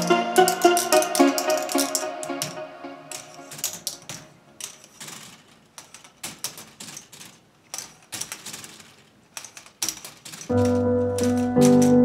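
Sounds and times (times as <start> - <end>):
plastic balls rolling and clattering: 0.0 - 12.0.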